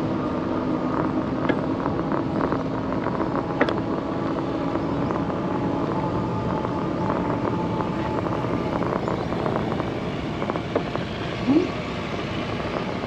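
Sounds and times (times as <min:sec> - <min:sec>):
low steady hum: 0:00.0 - 0:13.0
wind and tyre noise: 0:00.0 - 0:13.0.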